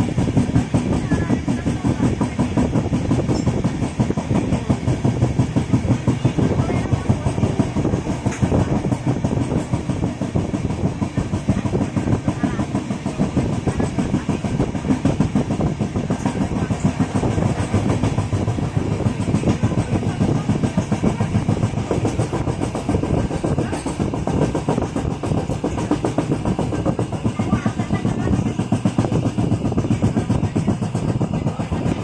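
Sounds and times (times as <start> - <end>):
train rumble: 0.0 - 32.0
wheels clattering over rails: 0.0 - 32.0.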